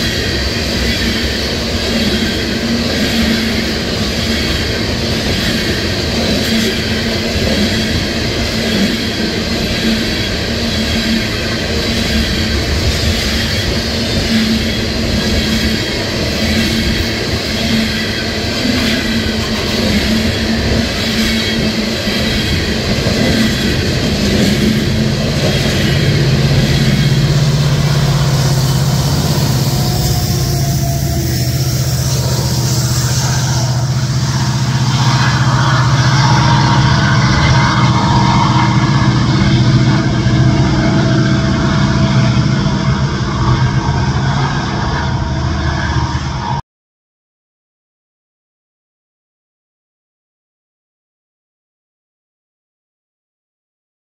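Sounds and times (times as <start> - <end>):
diesel locomotive drone: 0.0 - 46.6
train wheels running over rails: 0.0 - 46.6.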